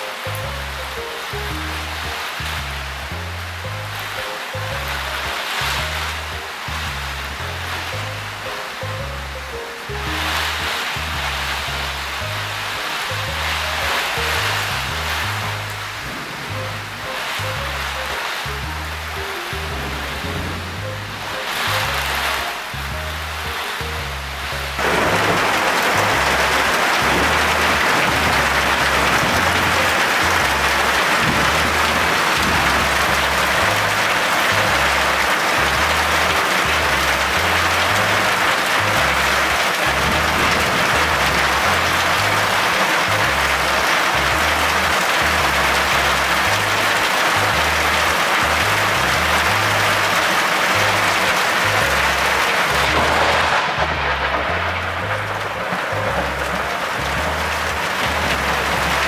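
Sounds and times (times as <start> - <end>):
heavy rain pouring: 0.0 - 59.0
music bass line: 0.2 - 59.0.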